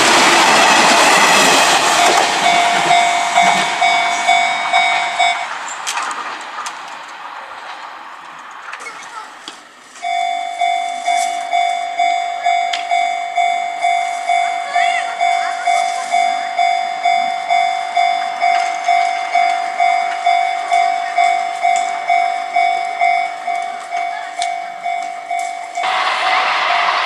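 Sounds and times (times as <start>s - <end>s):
level crossing alarm bell: 0.0s - 5.6s, 10.0s - 27.0s.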